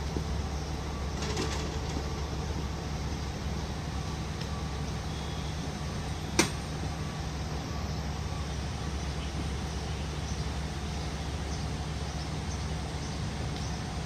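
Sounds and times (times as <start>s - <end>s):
city street noise: 0.0s - 14.0s
low mechanical hum: 0.0s - 14.0s.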